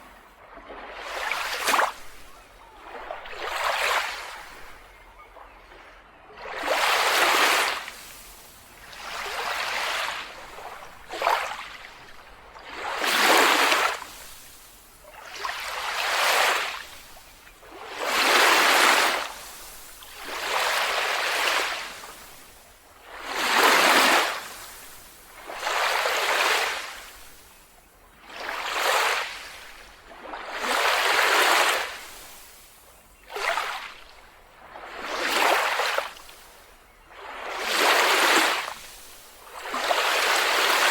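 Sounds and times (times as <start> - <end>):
small waves washing onto beach: 0.0 - 40.9.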